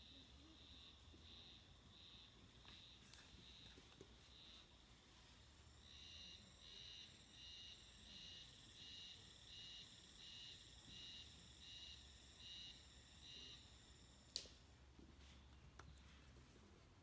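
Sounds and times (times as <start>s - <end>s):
faint high insect chirps: 0.0s - 14.5s.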